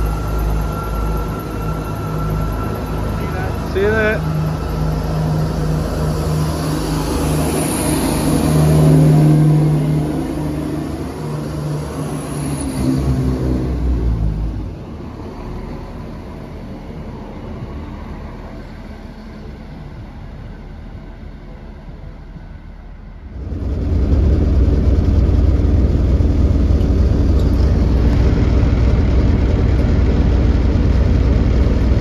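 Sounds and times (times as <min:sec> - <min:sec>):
diesel train engine humming: 0:00.0 - 0:32.0
train rumble: 0:00.0 - 0:32.0.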